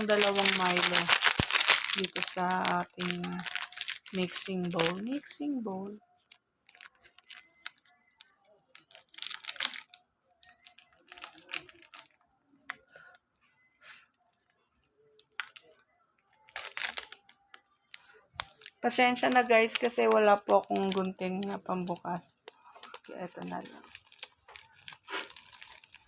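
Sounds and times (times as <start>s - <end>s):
plastic sachet crinkling and tearing: 0.0s - 12.2s, 15.2s - 26.0s.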